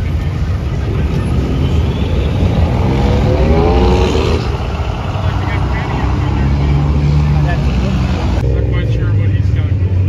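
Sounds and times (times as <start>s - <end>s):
vehicles driving past: 0.0s - 10.0s
engine revving up: 0.8s - 9.1s.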